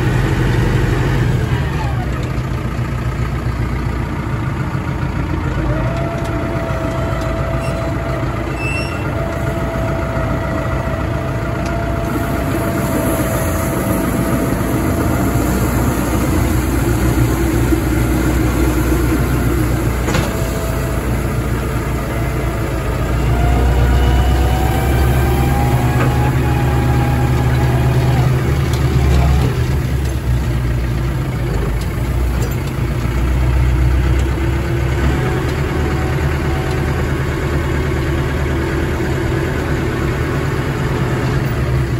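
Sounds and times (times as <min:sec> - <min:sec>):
heavy engine rumbling: 0:00.0 - 0:41.9.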